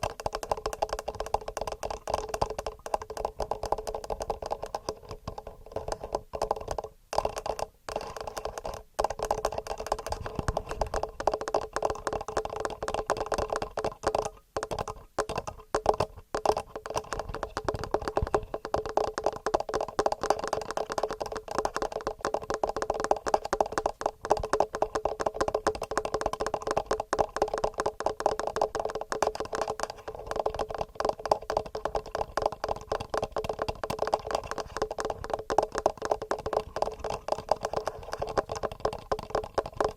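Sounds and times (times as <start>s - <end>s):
fingernails tapping on microphones: 0.0s - 39.9s.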